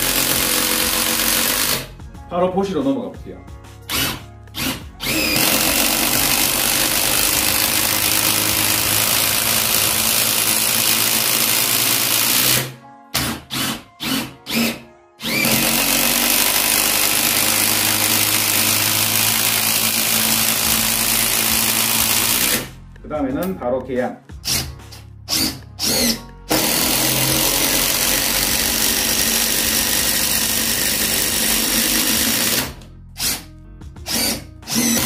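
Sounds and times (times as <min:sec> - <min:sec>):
impact driver hammering: 0:00.0 - 0:01.9, 0:03.9 - 0:22.7, 0:25.3 - 0:33.4, 0:34.1 - 0:35.0.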